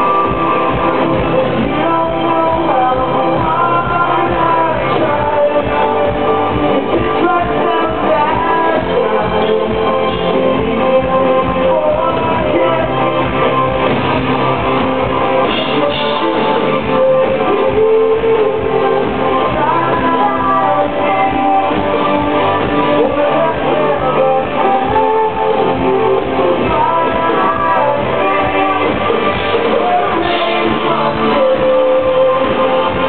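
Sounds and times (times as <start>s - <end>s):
electric guitar: 0.0s - 33.0s
live rock band: 0.0s - 33.0s.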